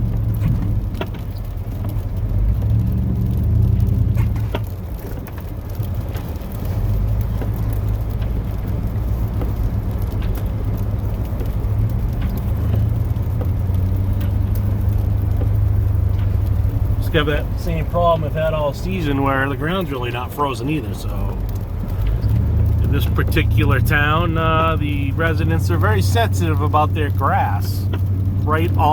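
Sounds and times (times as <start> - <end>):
light clicks and knocks: 0.0 - 28.9
truck engine under load: 0.0 - 28.9.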